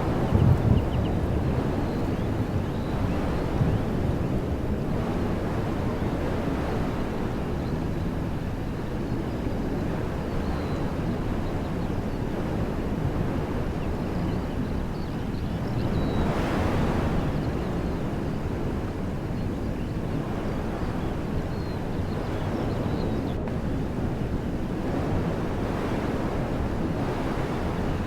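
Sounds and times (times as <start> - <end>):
wind buffeting microphone: 0.0 - 28.0
wind rushing through trees: 0.0 - 28.0.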